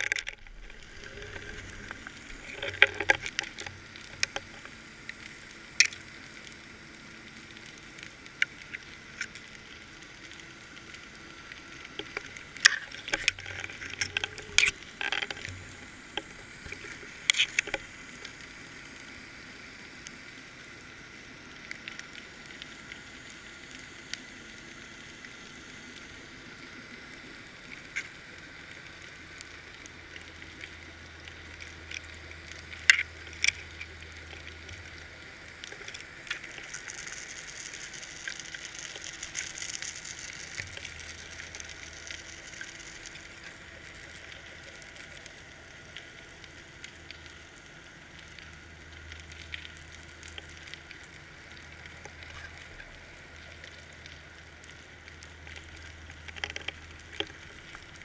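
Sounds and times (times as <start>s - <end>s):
underwater hiss with crackling: 0.0s - 58.0s.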